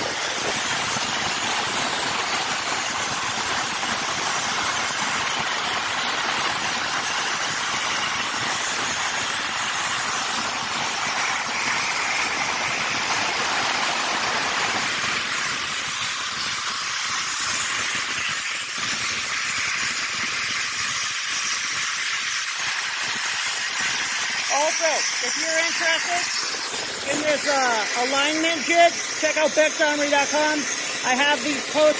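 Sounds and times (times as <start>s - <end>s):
plasma torch hissing: 0.0s - 31.9s.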